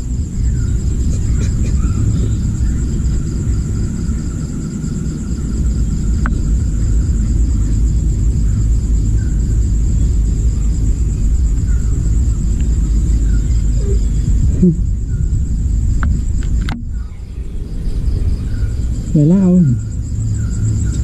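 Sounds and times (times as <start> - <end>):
insects chirring: 0.0 - 21.0
steady low rumble: 0.0 - 21.0.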